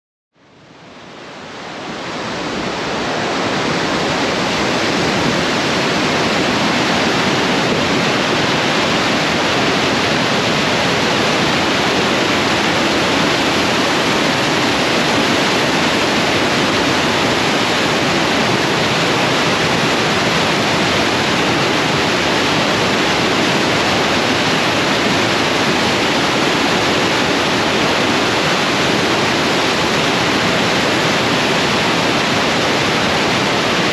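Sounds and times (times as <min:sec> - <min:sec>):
turbulent water rushing: 0:00.4 - 0:33.9.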